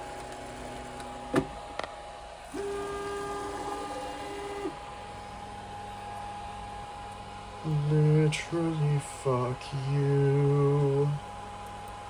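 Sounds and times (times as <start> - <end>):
steady hum: 0.0 - 12.0
stepper motors whining: 0.0 - 12.0.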